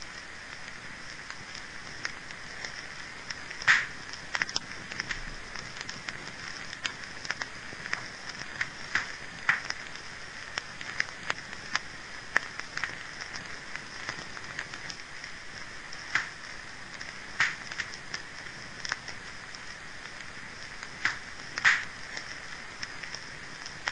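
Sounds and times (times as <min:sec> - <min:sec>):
steady hiss: 0:00.0 - 0:23.9
wood fire crackling and popping: 0:00.0 - 0:23.9.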